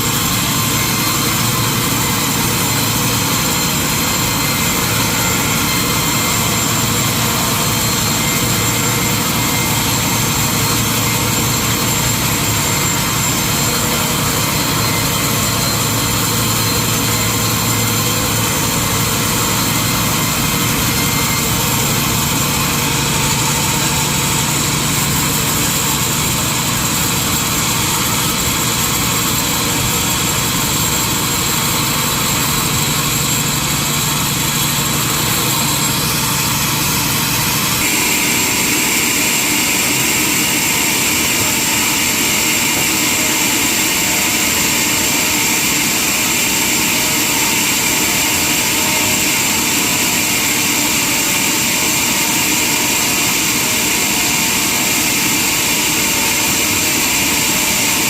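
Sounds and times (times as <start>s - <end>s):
constant machine whine: 0.0s - 58.0s
sawmill machinery drone: 0.0s - 58.0s.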